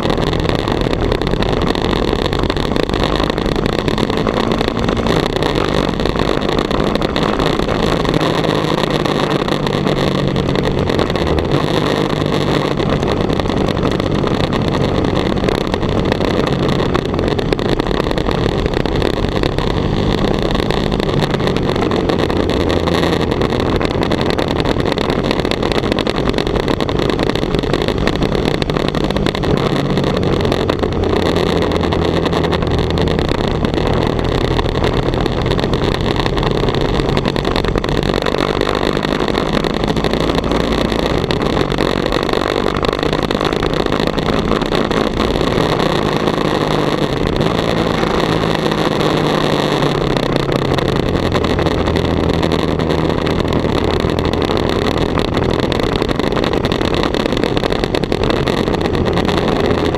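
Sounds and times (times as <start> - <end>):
motorcycle engine running: 0.0 - 59.9
wind rushing on microphone: 0.0 - 59.9.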